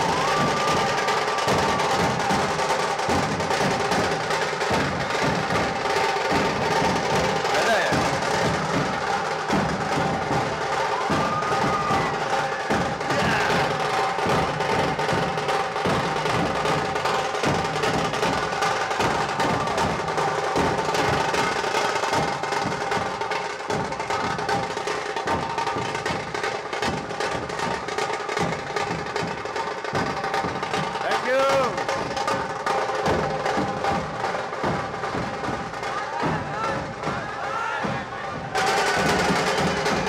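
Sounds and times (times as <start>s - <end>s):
drum and percussion beat: 0.0s - 40.0s.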